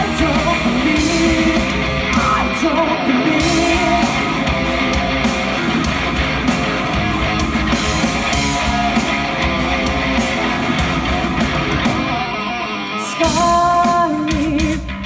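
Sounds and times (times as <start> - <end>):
bass and drums: 0.0 - 12.5, 13.2 - 15.0
electric guitar: 0.0 - 15.0.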